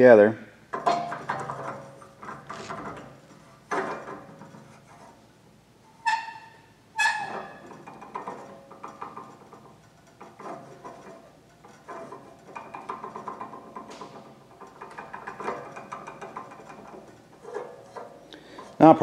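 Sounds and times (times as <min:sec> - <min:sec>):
metal rattling and scraping: 0:00.7 - 0:19.0.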